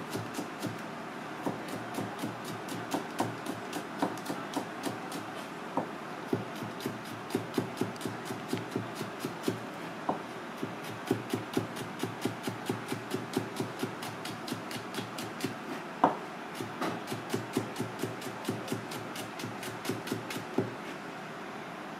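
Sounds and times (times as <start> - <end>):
knife chopping on cutting board: 1.4 - 5.2, 5.8 - 20.8.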